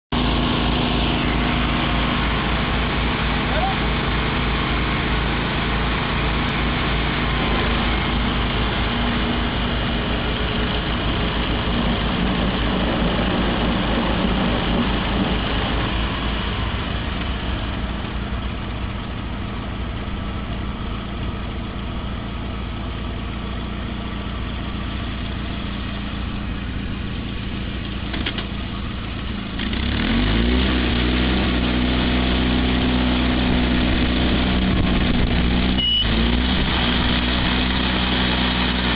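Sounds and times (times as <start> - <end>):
garden tractor engine running: 0.1 - 38.9.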